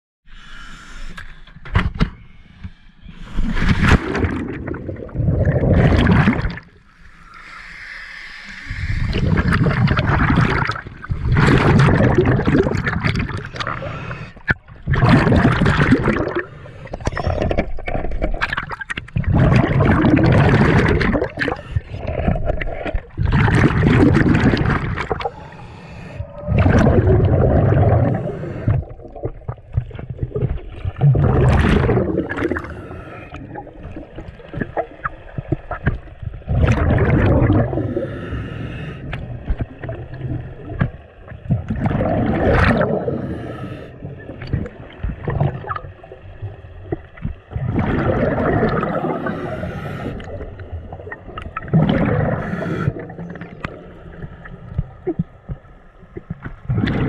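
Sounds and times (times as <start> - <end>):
water sloshing and gurgling underwater: 0.3 - 57.0.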